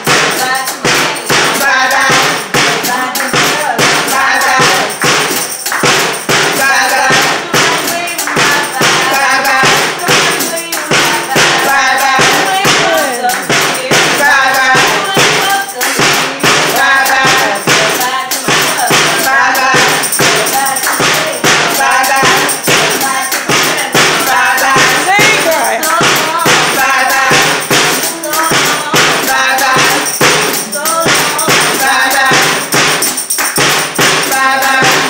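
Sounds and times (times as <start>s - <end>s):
hand claps: 0.0s - 35.0s
tambourine: 0.0s - 35.0s
women singing a church song: 0.0s - 35.0s.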